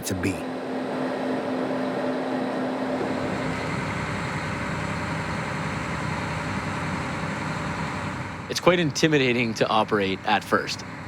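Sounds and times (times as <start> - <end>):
harvester engine and machinery drone: 0.0 - 11.0.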